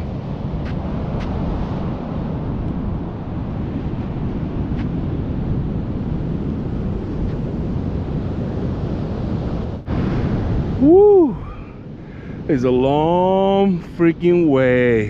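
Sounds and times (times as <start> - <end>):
ocean surf breaking on beach: 0.0 - 15.0
wind noise on microphone: 0.0 - 15.0.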